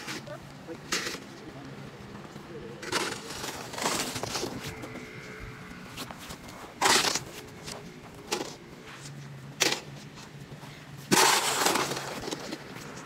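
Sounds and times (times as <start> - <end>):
footsteps crunching in snow: 0.0 - 13.0.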